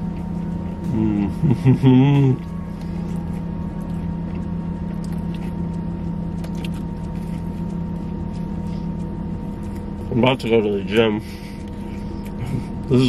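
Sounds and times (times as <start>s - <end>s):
vehicle engine low hum: 0.0s - 13.0s.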